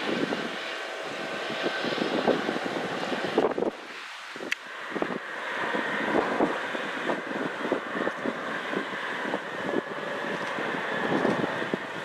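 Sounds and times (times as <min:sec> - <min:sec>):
jet engines rushing: 0:00.0 - 0:12.0
wind buffeting microphone: 0:00.0 - 0:12.0.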